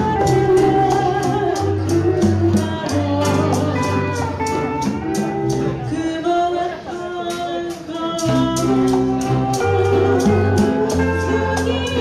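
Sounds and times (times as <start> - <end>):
conga drums: 0.0 - 12.0
maracas shaking: 0.0 - 12.0
steel guitar and guitar: 0.0 - 12.0
woman singing: 0.0 - 12.0.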